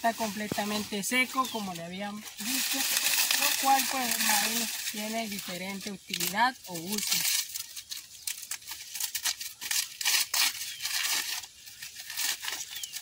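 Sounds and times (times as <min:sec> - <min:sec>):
dry husks being torn by hand: 0:00.4 - 0:13.0.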